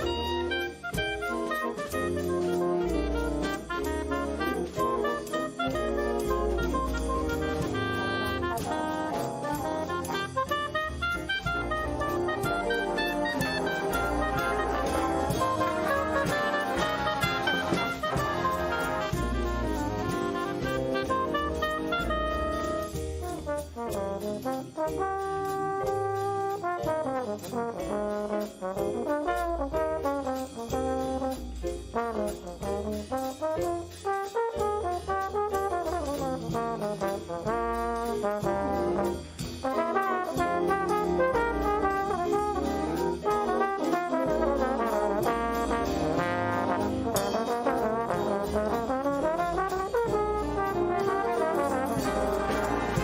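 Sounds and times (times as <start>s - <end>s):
brass band playing melody: 0.0s - 53.0s.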